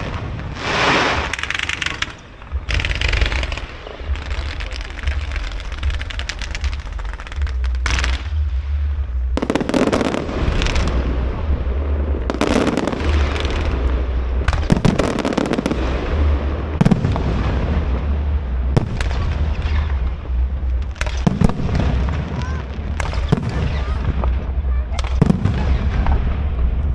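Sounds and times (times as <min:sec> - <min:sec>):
fireworks crackling pops: 0:00.0 - 0:11.5, 0:12.1 - 0:26.9
fireworks heavy burst: 0:00.0 - 0:26.9
low rumble: 0:00.0 - 0:26.9.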